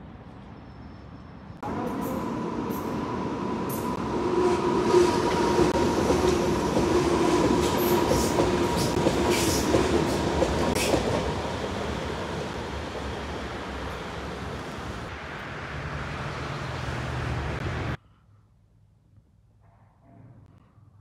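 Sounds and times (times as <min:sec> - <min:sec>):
electric train passing: 0:00.1 - 0:18.0.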